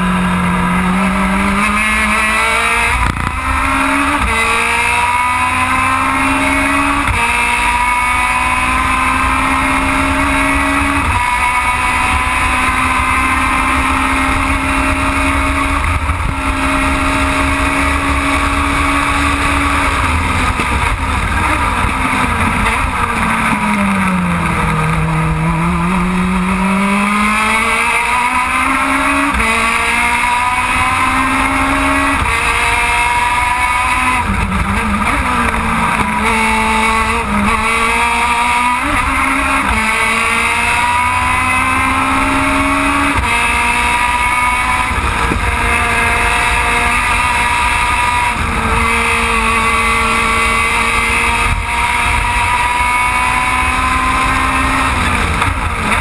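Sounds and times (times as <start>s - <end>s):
racing car engine at high revs: 0.0s - 56.0s
road and wind noise: 0.0s - 56.0s.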